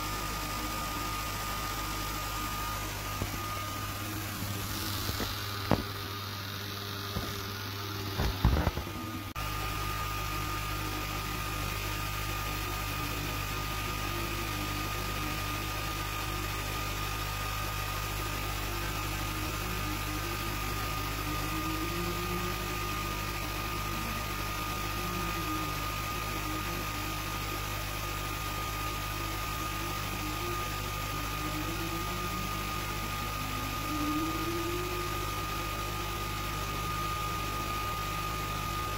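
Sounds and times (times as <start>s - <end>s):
laser engraver fan and motor hum: 0.0s - 38.9s
thin steady whine: 0.0s - 38.9s.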